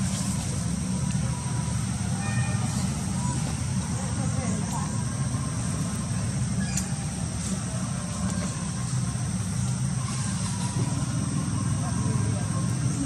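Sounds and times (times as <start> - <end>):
high-pitched hiss: 0.0 - 13.0
low background rumble: 0.0 - 13.0.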